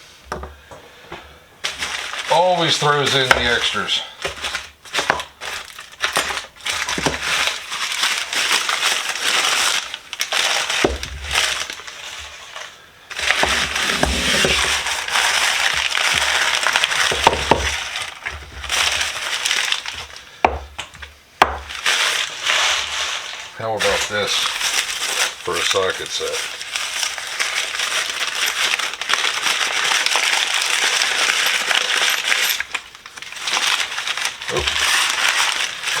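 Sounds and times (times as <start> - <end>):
packing material crumpling: 1.6 - 20.4, 21.0 - 36.0.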